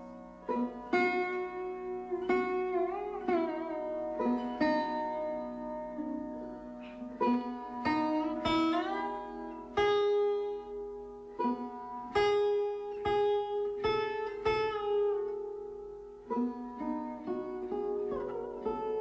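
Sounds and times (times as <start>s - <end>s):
plucked string melody: 0.0s - 19.0s.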